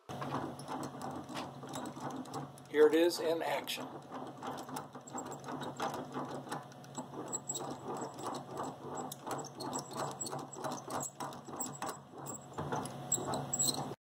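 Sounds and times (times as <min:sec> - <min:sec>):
vise crank clicking and rubbing: 0:00.0 - 0:14.0.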